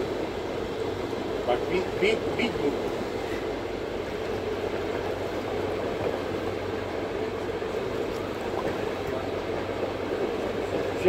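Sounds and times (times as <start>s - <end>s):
boat engine droning: 0.0s - 11.0s
sea noise: 0.0s - 11.0s
wind: 0.0s - 11.0s.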